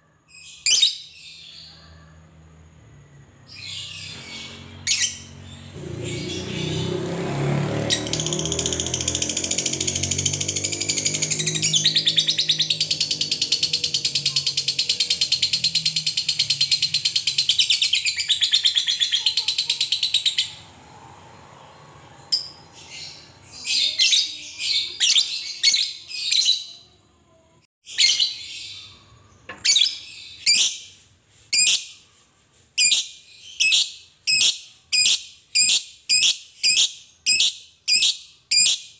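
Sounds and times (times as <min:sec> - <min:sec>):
bird chirping: 0:00.3 - 0:27.0, 0:27.8 - 0:32.2, 0:32.8 - 0:38.9.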